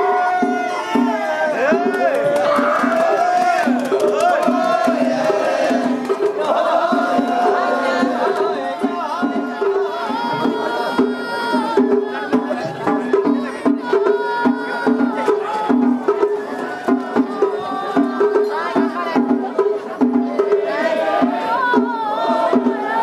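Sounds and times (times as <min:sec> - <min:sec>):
festival crowd: 0:00.0 - 0:23.0
festival drums beating: 0:00.0 - 0:23.0.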